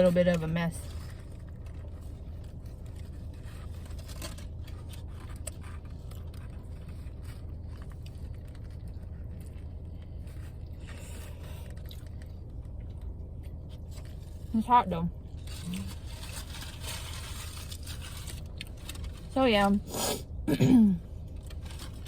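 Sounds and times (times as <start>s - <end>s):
paper food wrapping being handled: 0.0s - 14.6s, 15.3s - 19.9s, 21.3s - 22.0s
steady low hum: 0.0s - 22.0s.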